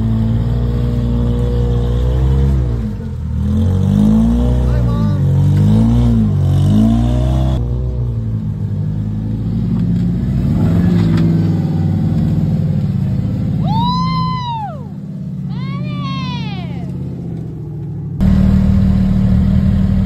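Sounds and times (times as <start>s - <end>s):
buggy engine revving: 0.0s - 20.0s
buggy engine running under load: 0.0s - 20.0s.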